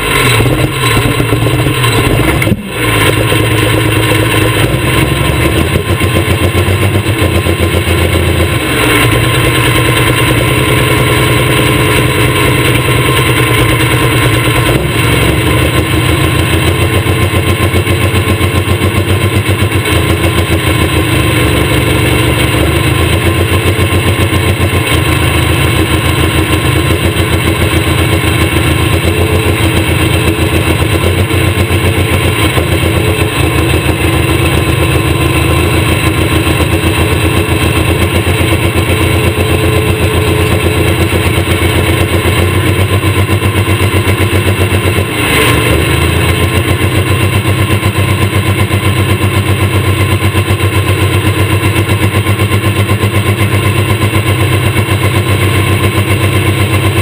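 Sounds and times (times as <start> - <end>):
diesel tractor engine idling: 0.0 - 57.0.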